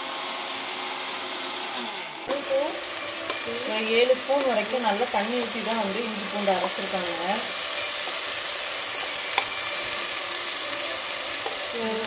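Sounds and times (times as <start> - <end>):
onions sizzling in oil: 2.3 - 12.0.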